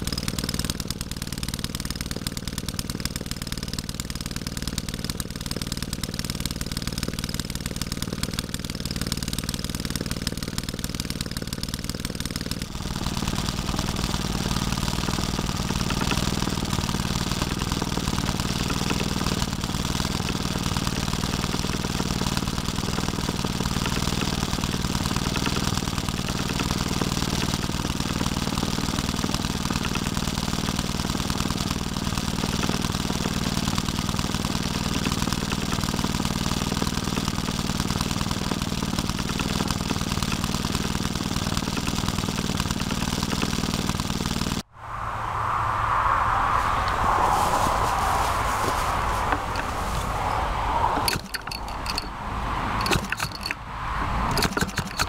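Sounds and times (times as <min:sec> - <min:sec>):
two-stroke engine running: 0:00.0 - 0:44.7, 0:46.8 - 0:55.0.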